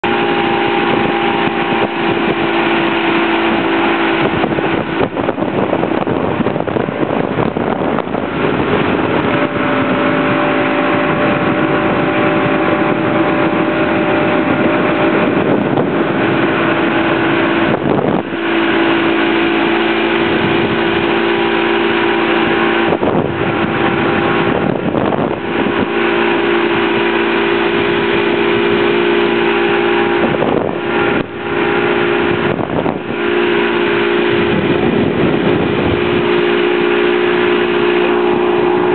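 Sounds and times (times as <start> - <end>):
motorboat engine running: 0.0 - 38.9
wind and water rushing: 0.0 - 38.9.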